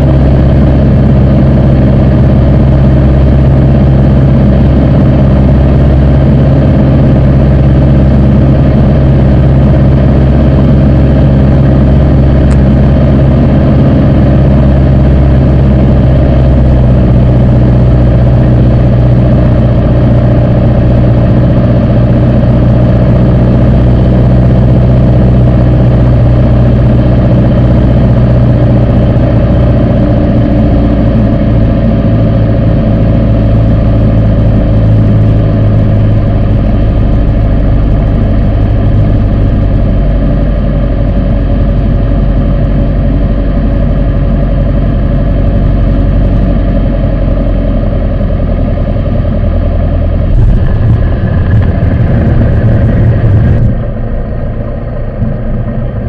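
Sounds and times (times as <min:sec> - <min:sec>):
plane engine and propeller: 0:00.0 - 0:56.0.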